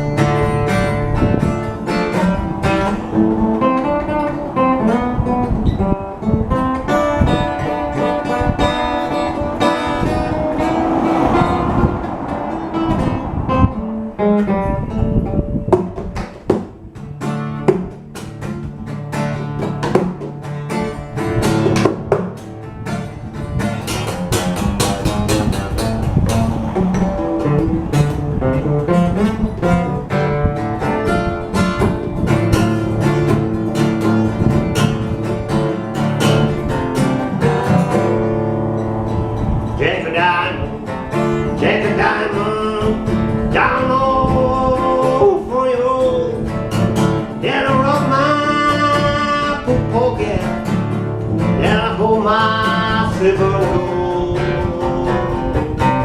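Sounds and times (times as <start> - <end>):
acoustic guitar picking folk tune: 0.0 - 56.0.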